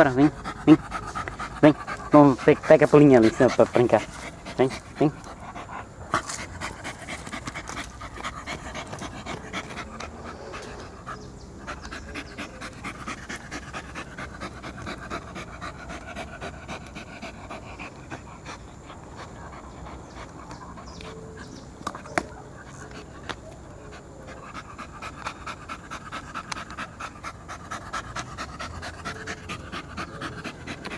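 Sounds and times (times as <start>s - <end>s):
dog panting rapidly: 0.0s - 30.9s.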